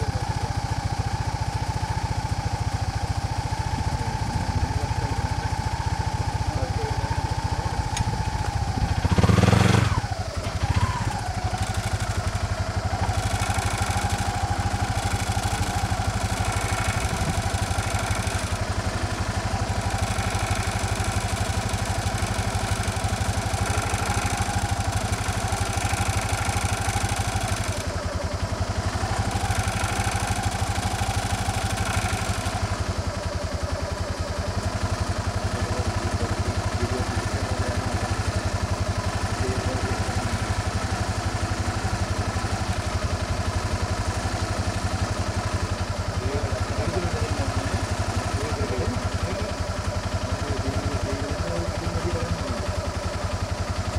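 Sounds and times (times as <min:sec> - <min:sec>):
vehicle engine idling: 0:00.0 - 0:53.9.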